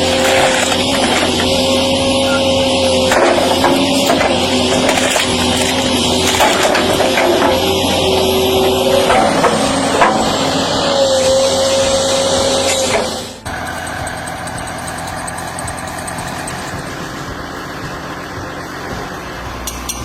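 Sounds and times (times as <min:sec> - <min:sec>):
engine whine: 0:00.0 - 0:20.0
heavy machinery engine running: 0:00.0 - 0:20.0.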